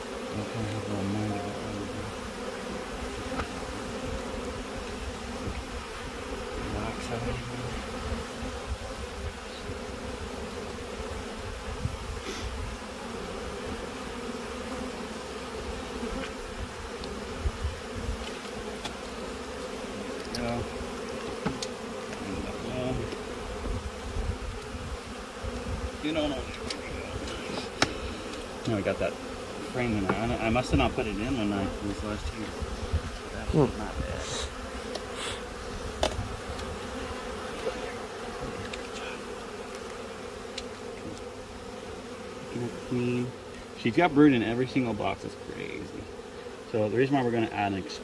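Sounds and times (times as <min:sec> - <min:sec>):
bees buzzing: 0:00.0 - 0:48.0.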